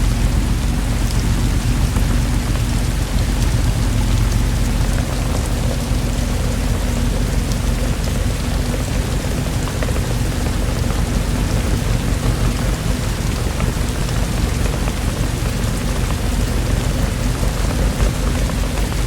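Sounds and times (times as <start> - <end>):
distant thunder rumble: 0.0 - 19.0
steady rainfall: 0.0 - 19.0.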